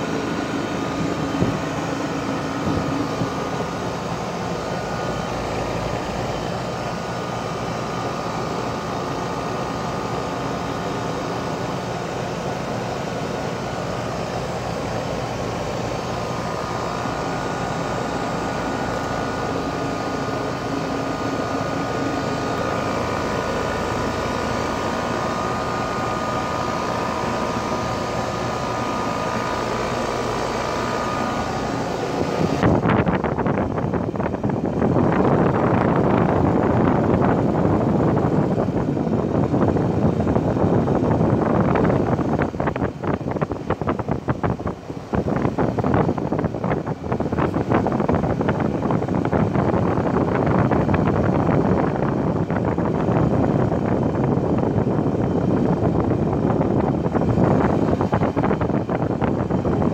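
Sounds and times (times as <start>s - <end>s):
condenser fan rushing: 0.0s - 59.9s
steady hum: 0.0s - 59.9s.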